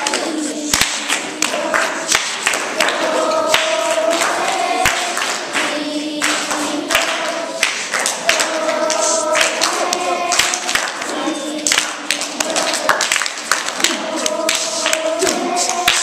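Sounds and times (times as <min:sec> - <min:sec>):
children singing together: 0:00.0 - 0:16.0
hand claps: 0:00.0 - 0:16.0.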